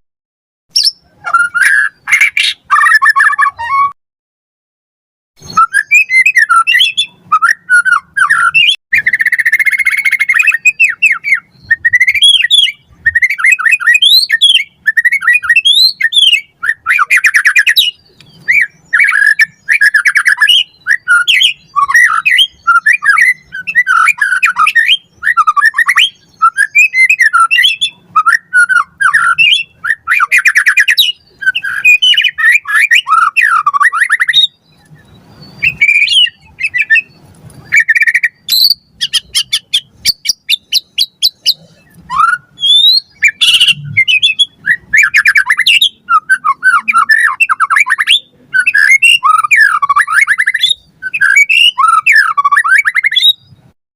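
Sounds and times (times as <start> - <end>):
bird singing whistled song: 0.7 - 4.0, 5.4 - 53.8.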